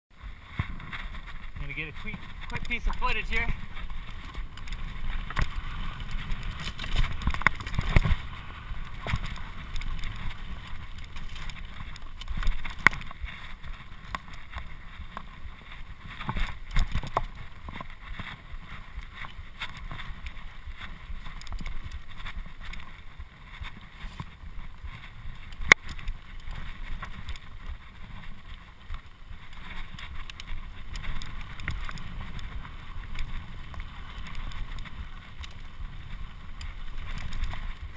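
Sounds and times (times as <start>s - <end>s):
bike rattling over bumps: 0.1s - 37.9s
bike tyres rumbling on dirt: 0.1s - 37.9s.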